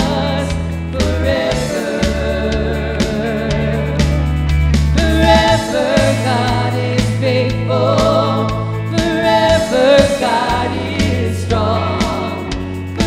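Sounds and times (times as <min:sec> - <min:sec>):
women singing: 0:00.0 - 0:04.3, 0:04.9 - 0:13.0
worship band playing: 0:00.0 - 0:13.0.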